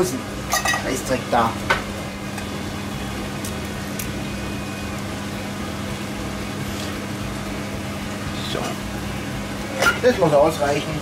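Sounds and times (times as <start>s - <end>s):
mechanical fan hum: 0.0s - 11.0s.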